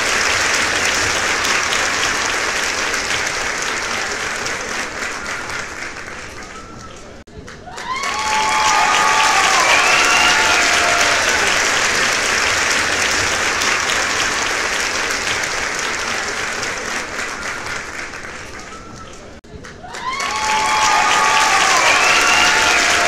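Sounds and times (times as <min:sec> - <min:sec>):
crowd applause: 0:00.0 - 0:23.0.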